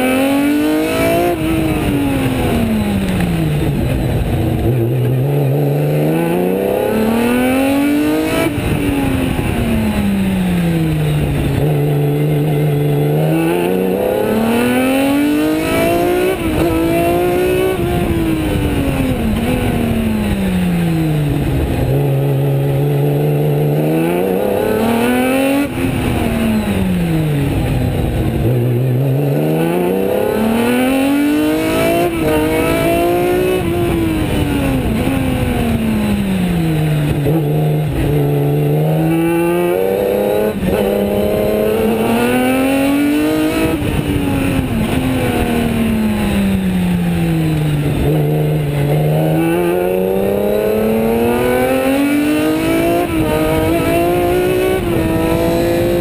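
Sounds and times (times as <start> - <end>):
race car engine revving: 0.0 - 56.0
wind and road noise: 0.0 - 56.0.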